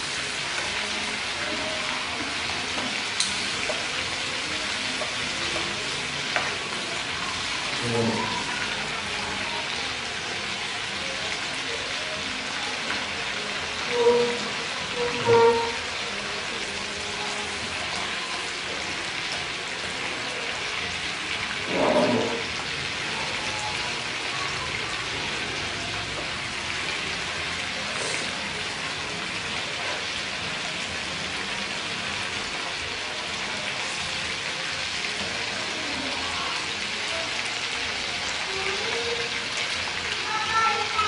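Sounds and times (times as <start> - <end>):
food deep-frying in hot oil: 0.0 - 41.0.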